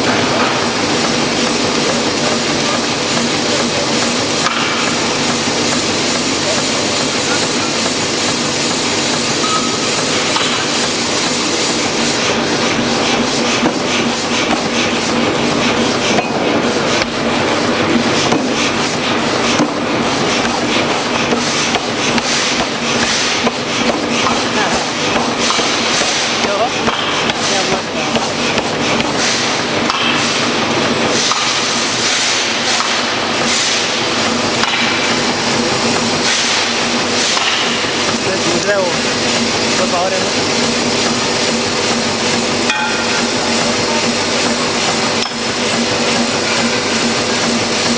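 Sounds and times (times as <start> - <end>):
forge machinery hissing: 0.0 - 47.9.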